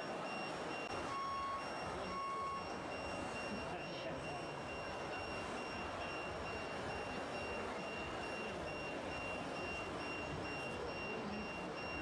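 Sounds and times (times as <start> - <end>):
high electronic beep pulsing: 0.0 - 12.0.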